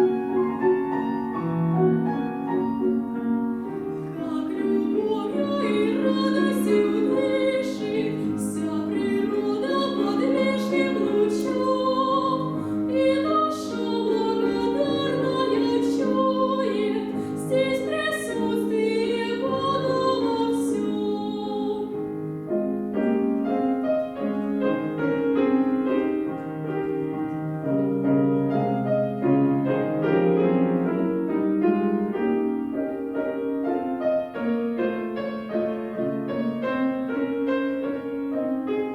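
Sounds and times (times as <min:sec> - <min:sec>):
piano: 0:00.0 - 0:38.9
woman singing classical song: 0:00.1 - 0:38.9.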